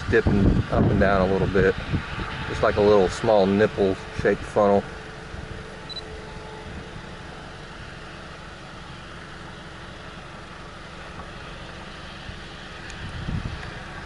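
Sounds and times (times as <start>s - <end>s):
car cabin rumble and hiss: 0.0s - 14.0s.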